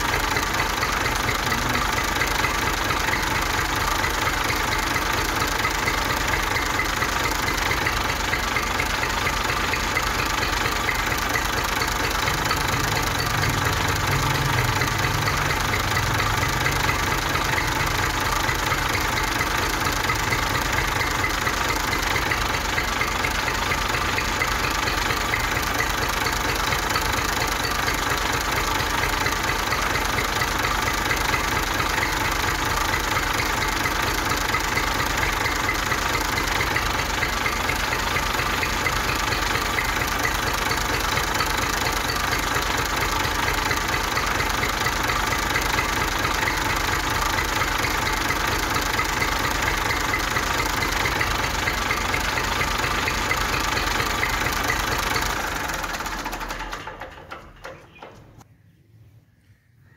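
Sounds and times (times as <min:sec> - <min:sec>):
model tractor motor chattering: 0:00.0 - 0:58.4.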